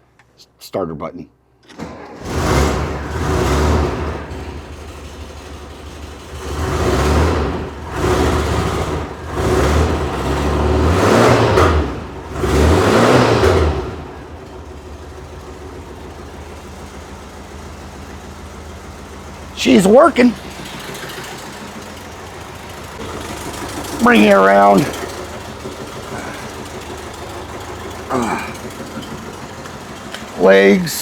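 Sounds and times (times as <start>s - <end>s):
engine revving and idling: 2.1s - 31.0s.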